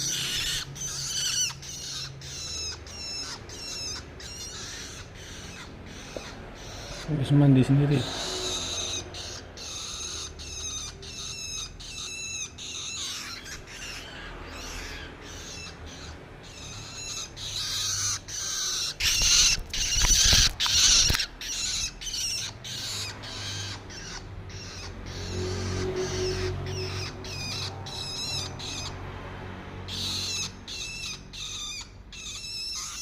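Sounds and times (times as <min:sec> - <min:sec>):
shrike harsh scratchy calls: 0:00.0 - 0:29.0.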